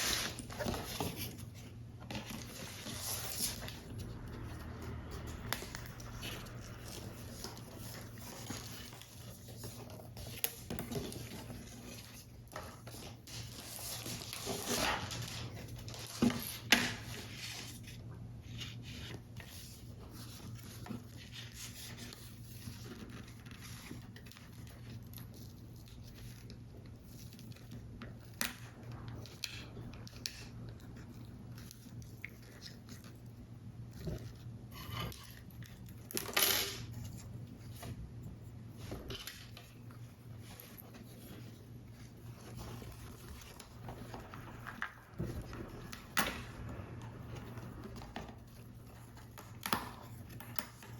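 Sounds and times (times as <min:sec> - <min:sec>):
paper rustle: 0:00.0 - 0:50.9.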